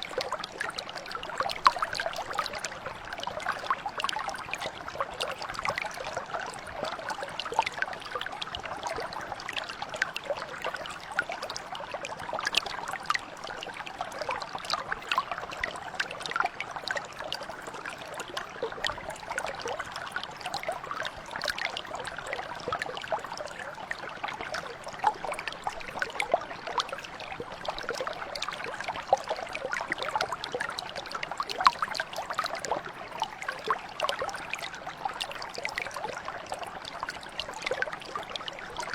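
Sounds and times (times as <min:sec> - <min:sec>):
brook flowing over stones: 0:00.0 - 0:38.9.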